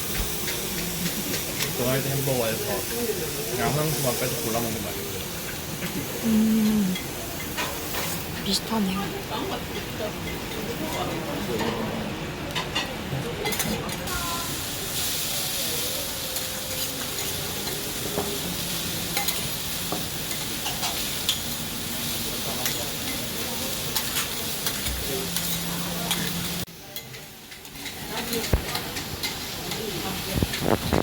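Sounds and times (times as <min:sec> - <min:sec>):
food sizzling on griddle: 0:00.0 - 0:12.8, 0:13.4 - 0:31.0.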